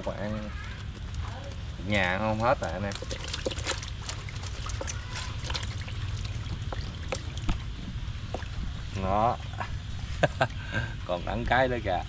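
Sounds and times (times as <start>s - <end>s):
water trickling and splashing: 0.0s - 10.2s.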